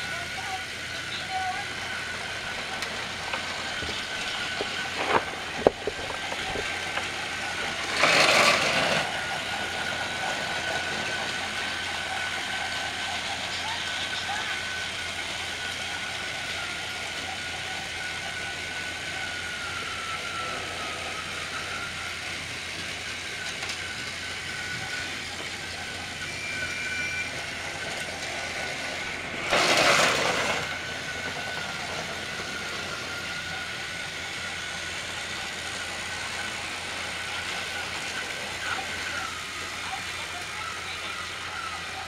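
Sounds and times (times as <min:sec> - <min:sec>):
toy train motors whining: 0:00.0 - 0:42.0
loud rough rushing noise: 0:01.7 - 0:13.1, 0:18.4 - 0:41.4.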